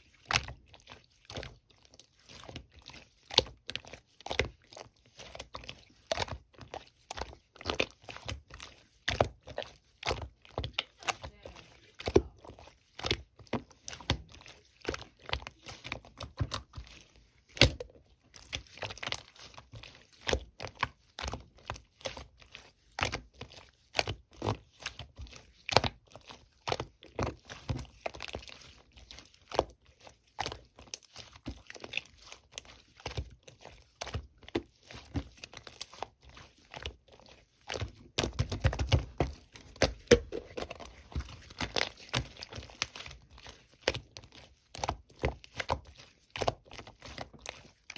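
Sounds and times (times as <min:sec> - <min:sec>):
slime squished by hand: 0:00.1 - 0:47.9.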